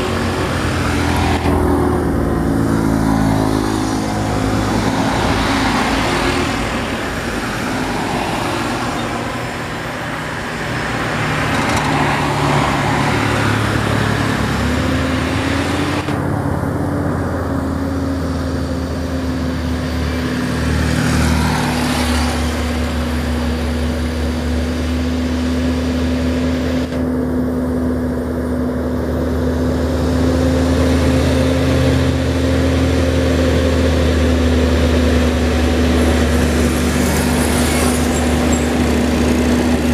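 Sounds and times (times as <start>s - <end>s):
passing cars and motorcycles: 0.0s - 39.9s
truck diesel engine droning: 0.0s - 39.9s.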